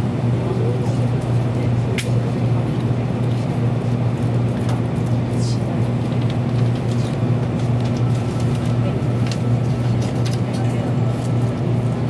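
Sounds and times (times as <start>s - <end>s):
train cabin hum and rumble: 0.0s - 12.0s.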